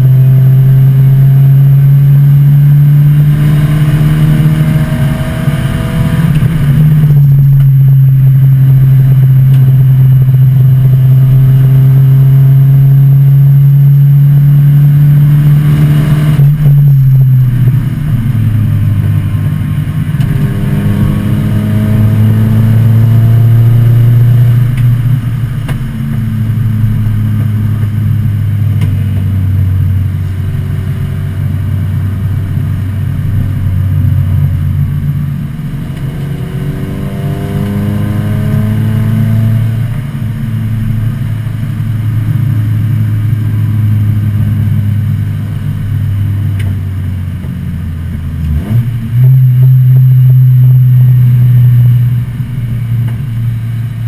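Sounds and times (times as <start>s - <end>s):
race car engine from inside: 0.0s - 54.0s.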